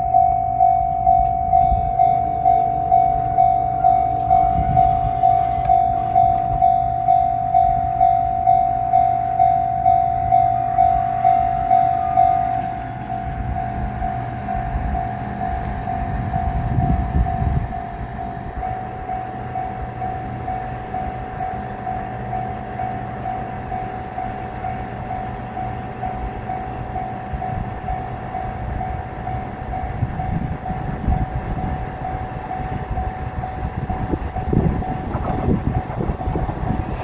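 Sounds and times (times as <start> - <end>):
railroad crossing alarm ringing: 0.0 - 37.0
train approaching rumble: 0.0 - 37.0.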